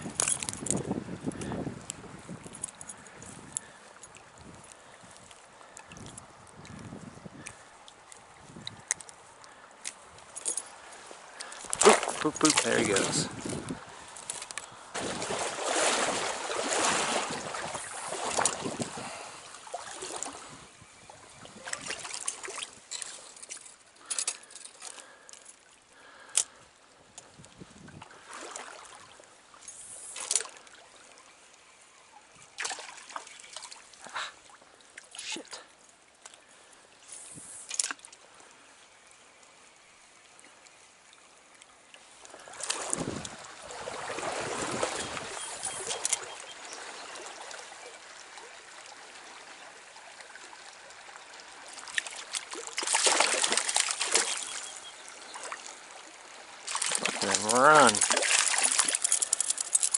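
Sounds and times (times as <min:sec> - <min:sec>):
stream trickling: 0:00.0 - 0:59.9
water splashes: 0:02.2 - 0:26.3, 0:27.8 - 0:31.6, 0:32.2 - 0:38.7, 0:40.1 - 0:59.9.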